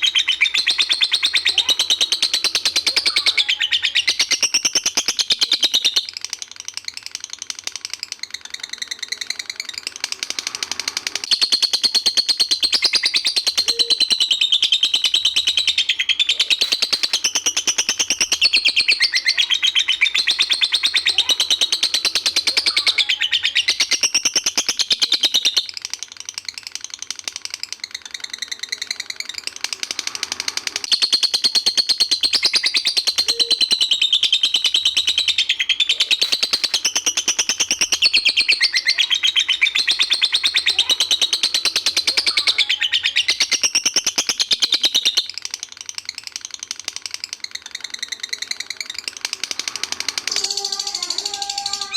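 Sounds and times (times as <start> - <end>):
songbird singing: 0.0 - 30.0, 30.8 - 51.9.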